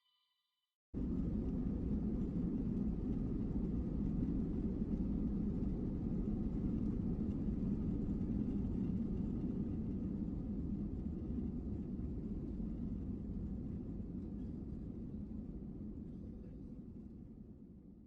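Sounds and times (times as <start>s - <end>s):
airliner cabin engine rumble: 1.0s - 17.3s.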